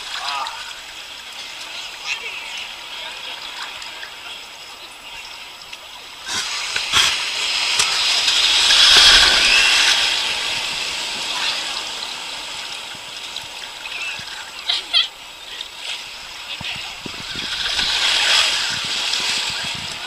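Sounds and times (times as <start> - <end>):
surf washing in shallow water: 0.0 - 20.0.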